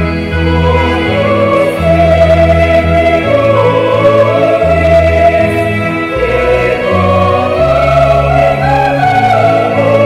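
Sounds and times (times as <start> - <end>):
choir singing a hymn: 0.0 - 10.0.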